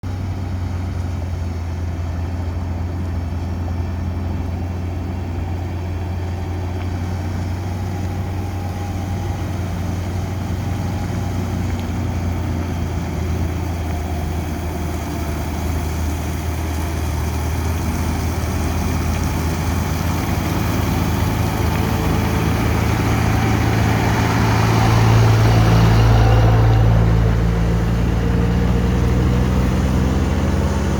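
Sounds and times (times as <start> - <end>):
heavy machine engine running: 0.0 - 30.9.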